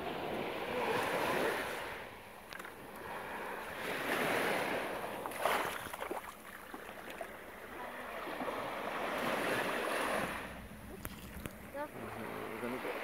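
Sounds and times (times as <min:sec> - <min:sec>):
small waves washing over sand: 0:00.0 - 0:13.0.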